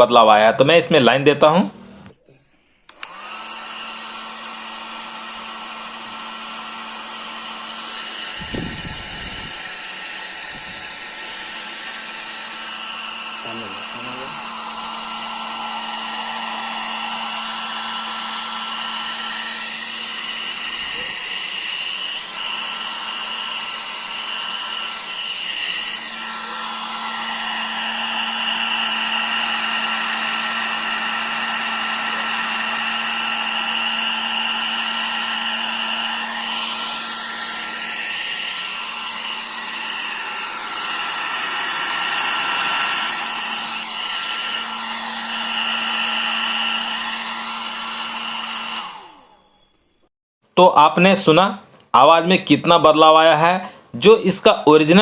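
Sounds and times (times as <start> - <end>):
hair dryer whirring: 0.0 - 2.2, 2.8 - 50.1, 51.1 - 55.0.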